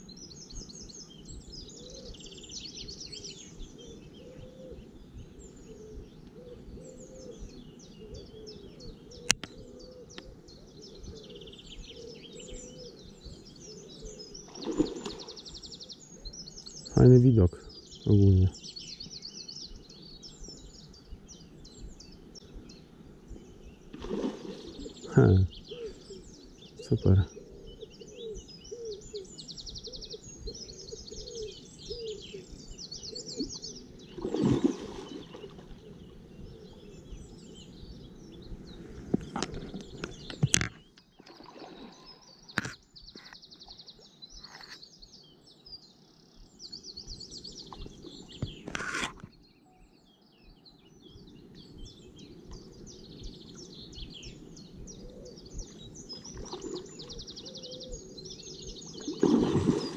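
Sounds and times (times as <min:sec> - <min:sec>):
wild birds chirping and trilling: 0:00.0 - 0:59.9.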